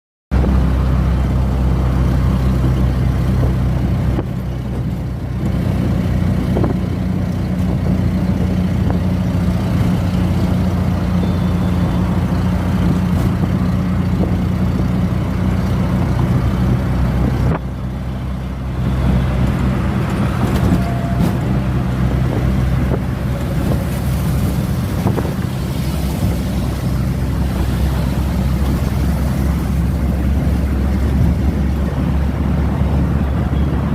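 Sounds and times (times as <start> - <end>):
motor vehicle rumble: 0.3 - 33.9.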